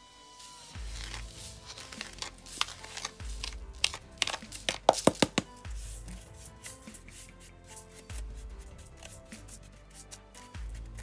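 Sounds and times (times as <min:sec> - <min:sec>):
soft music: 0:00.0 - 0:11.0
metal spoon scraping salt: 0:00.4 - 0:05.1, 0:05.7 - 0:11.0.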